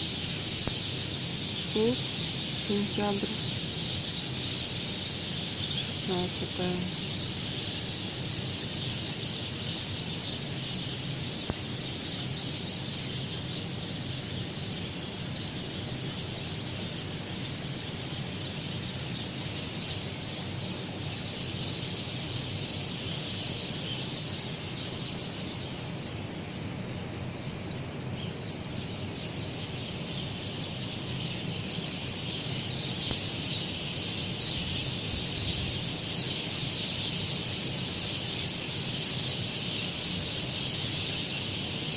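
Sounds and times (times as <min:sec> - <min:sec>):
small birds chirping: 0:00.0 - 0:41.9
steady hiss: 0:00.0 - 0:41.9.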